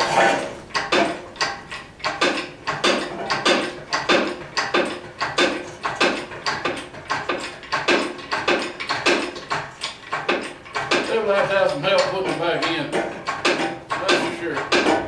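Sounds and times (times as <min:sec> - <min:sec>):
grating mechanical clacks: 0:00.0 - 0:15.0.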